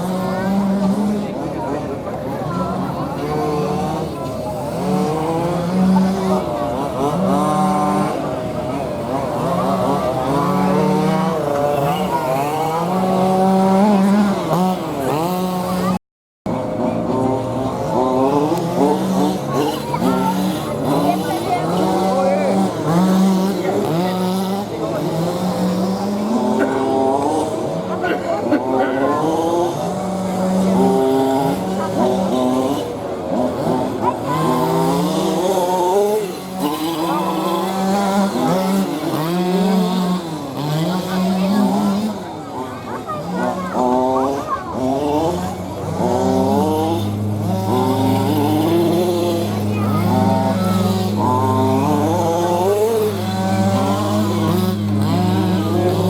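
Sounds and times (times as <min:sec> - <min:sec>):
rc car motor revving: 0:00.0 - 0:56.0.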